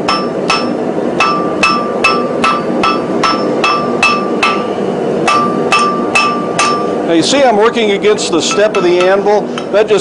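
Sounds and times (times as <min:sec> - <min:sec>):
hammer striking metal on anvil: 0:00.0 - 0:07.0, 0:08.4 - 0:09.8.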